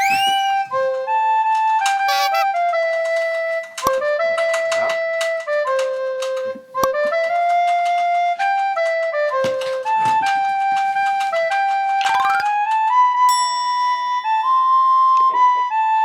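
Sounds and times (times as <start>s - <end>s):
background music melody: 0.0s - 16.0s.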